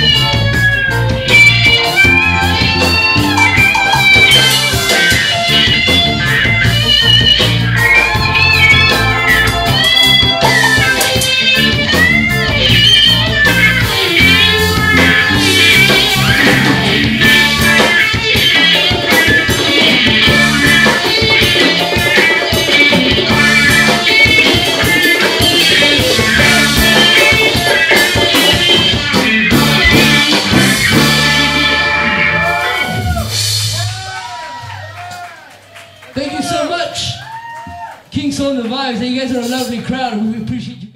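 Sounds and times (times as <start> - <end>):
electric guitar lead: 0.0 - 35.2
reggae band playing: 0.0 - 40.7.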